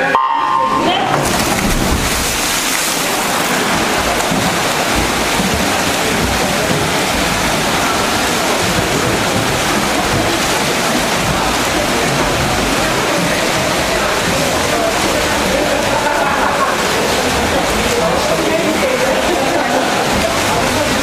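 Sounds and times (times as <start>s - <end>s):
swimmers splashing: 0.0s - 21.0s.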